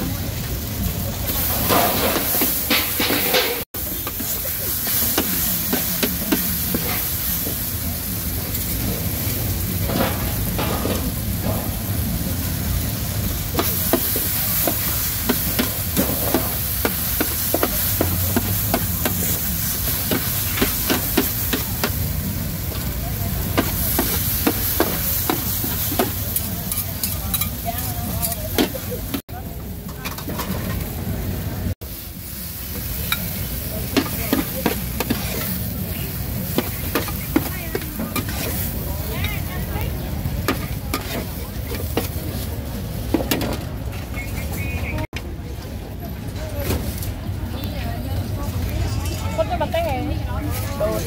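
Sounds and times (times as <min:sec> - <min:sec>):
food sizzling: 0:00.0 - 0:45.1.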